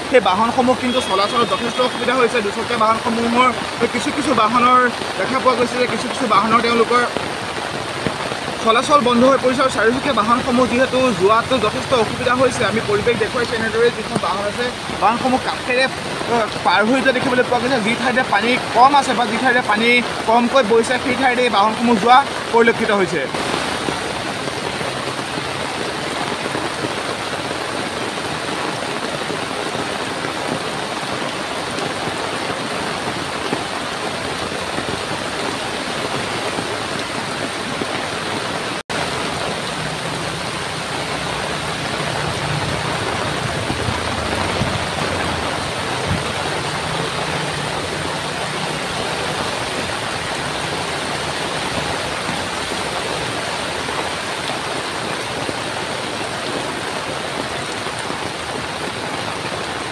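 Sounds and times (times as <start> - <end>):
floodwater rushing: 0.0 - 59.9
heavy rain: 0.0 - 59.9.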